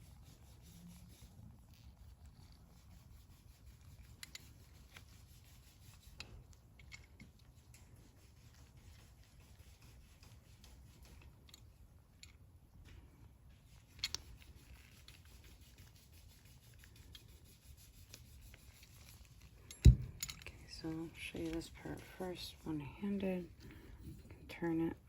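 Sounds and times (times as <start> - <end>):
faint clicks and rubs of handling: 0.0 - 25.0
low steady hum: 0.0 - 25.0.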